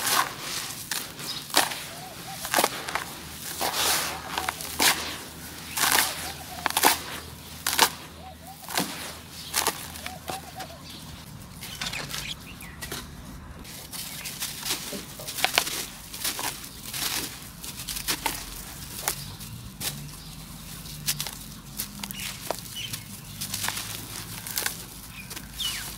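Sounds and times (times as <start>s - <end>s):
hands crumbling dry dirt: 0.0s - 25.9s.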